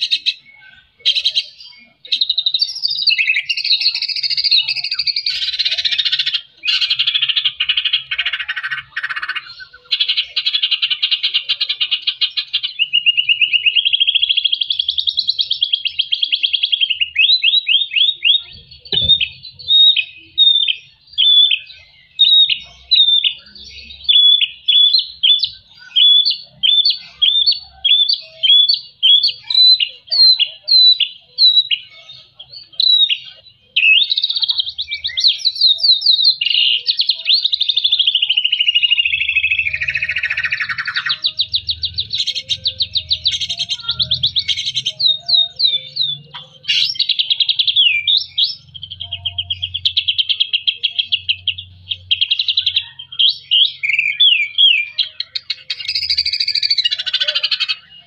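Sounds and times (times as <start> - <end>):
bird singing whistles and trills: 0.0 - 58.0.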